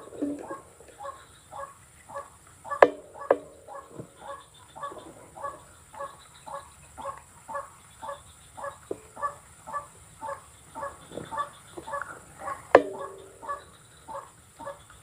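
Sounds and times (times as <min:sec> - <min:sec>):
bird calling harsh notes: 0:00.0 - 0:15.0.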